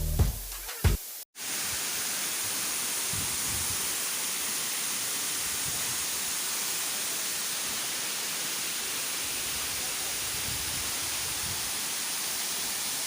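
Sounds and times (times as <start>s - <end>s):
waterfall rushing: 0.6s - 13.0s.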